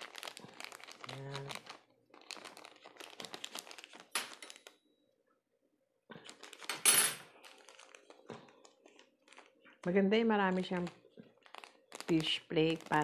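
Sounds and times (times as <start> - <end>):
plastic packet crinkling: 0.0 - 4.8, 6.1 - 13.0.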